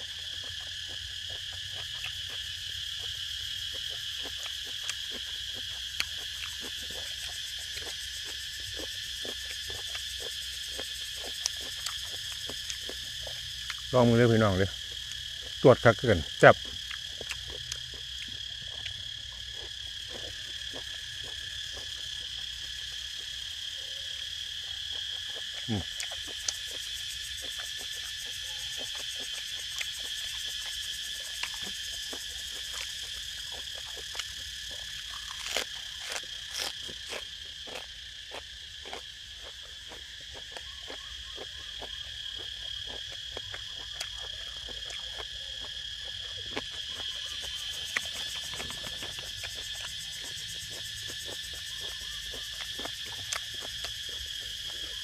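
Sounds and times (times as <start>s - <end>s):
insects chirring: 0.0s - 55.0s
person eating crunchily: 0.0s - 55.0s.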